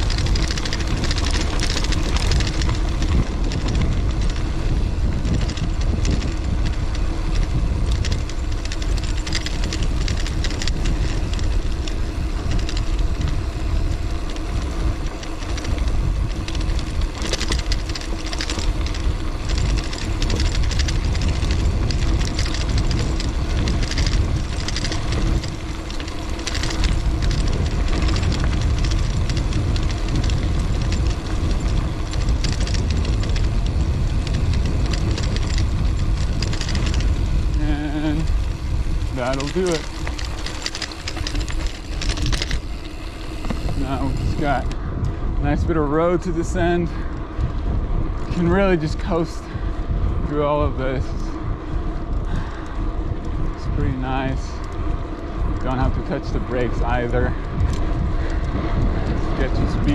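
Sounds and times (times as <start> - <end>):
bike rattling over bumps: 0.0 - 59.9
tyres rolling on dirt: 0.0 - 59.9
wind on microphone: 0.0 - 59.9.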